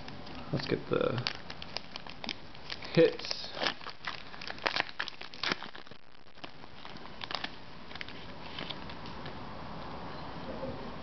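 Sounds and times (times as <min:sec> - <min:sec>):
card pack wrapper crinkling: 0:00.0 - 0:09.0.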